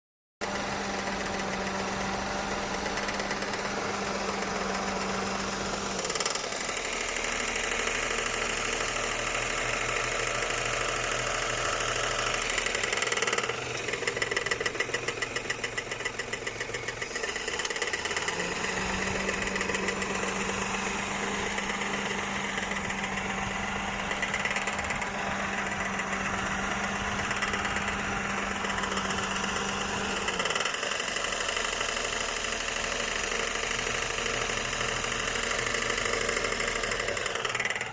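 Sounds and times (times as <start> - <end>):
engine running with abnormal noise: 0.4 - 37.9.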